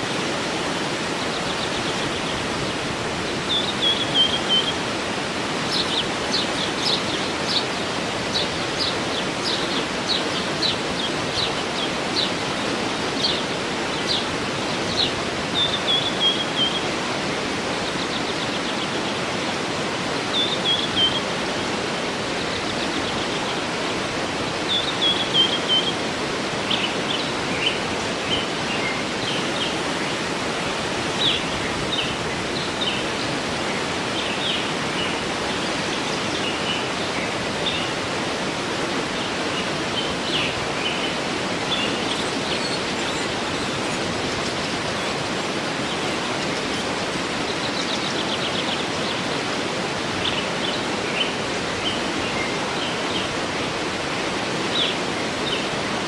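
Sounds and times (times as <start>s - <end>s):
songbirds chirping: 0.0s - 56.0s
waterfall: 0.0s - 56.0s.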